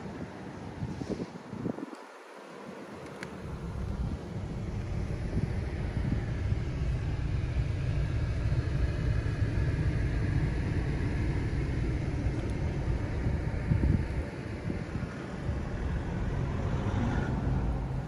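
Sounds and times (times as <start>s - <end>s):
wind buffeting microphone: 0.0s - 2.2s, 3.3s - 18.0s.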